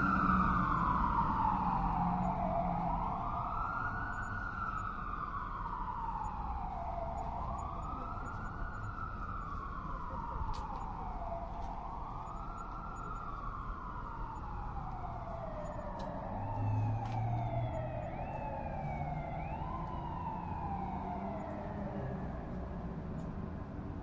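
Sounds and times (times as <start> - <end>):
police car siren wailing: 0.0 - 24.0.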